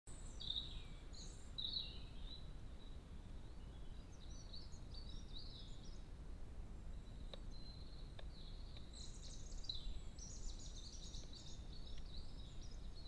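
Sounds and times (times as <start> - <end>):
songbird singing: 0.1 - 13.0.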